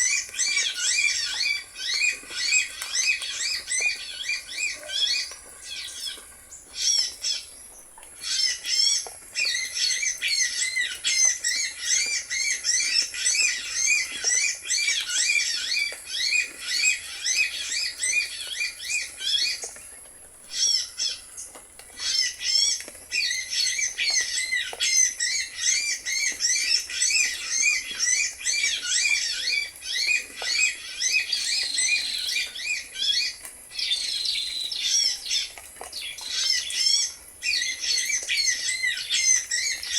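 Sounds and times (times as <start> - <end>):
birds chirping and trilling: 0.0 - 19.8, 20.5 - 39.9.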